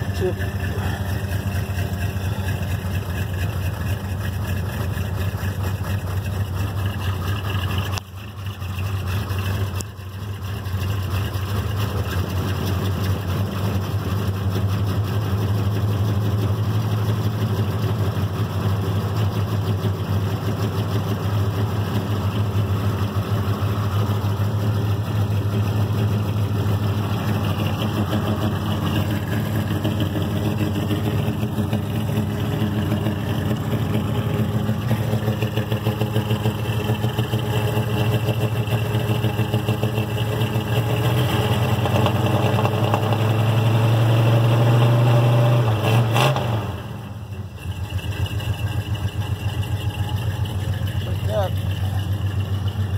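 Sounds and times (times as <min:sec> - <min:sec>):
car engine idling: 0:00.0 - 0:45.5, 0:46.4 - 0:52.9.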